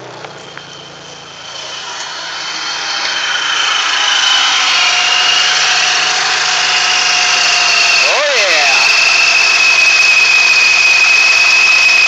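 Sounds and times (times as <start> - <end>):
car engine running: 0.0 - 12.0
supercharger whine: 0.0 - 12.0.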